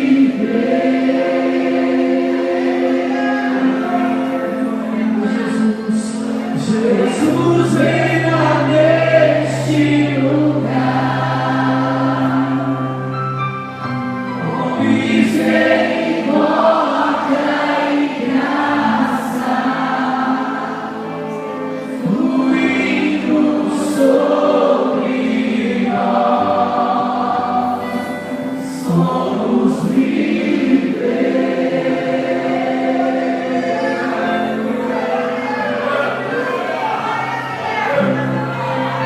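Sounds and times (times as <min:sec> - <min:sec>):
backing music: 0:00.0 - 0:39.0
congregation singing: 0:00.0 - 0:39.0.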